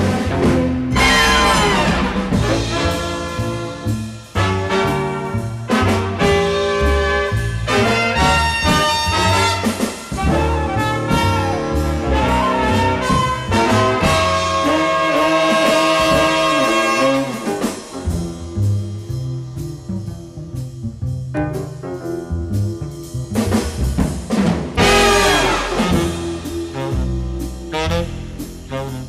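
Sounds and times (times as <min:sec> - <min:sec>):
upbeat jazzy brass music: 0:00.0 - 0:29.0.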